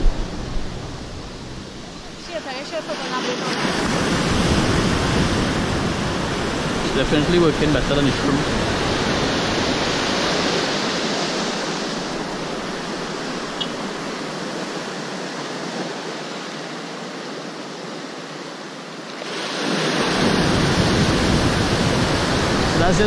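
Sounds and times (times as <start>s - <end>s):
waves breaking: 0.0s - 23.0s.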